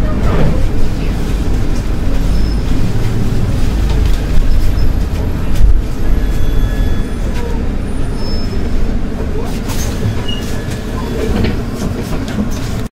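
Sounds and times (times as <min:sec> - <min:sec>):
bus engine rumble: 0:00.0 - 0:12.9.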